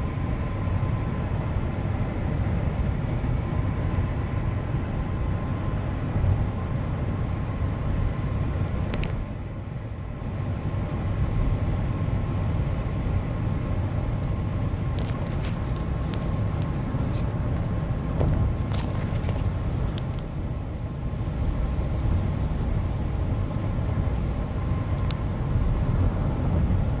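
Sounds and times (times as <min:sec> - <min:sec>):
low road and engine rumble: 0:00.0 - 0:27.0.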